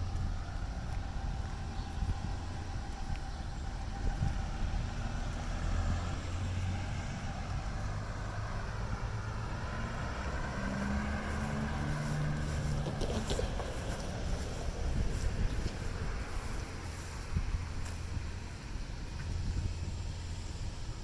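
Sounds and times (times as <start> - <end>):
moving train rumble: 0.0 - 21.0.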